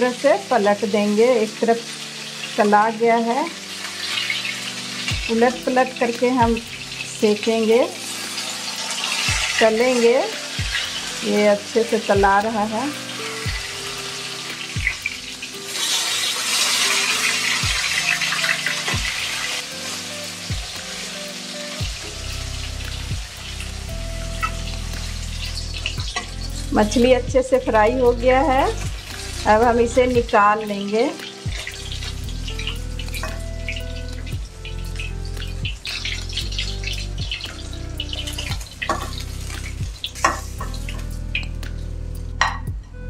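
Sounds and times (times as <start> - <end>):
fish sizzling in hot oil: 0.0 - 42.6
soft background music with beat: 0.0 - 43.0.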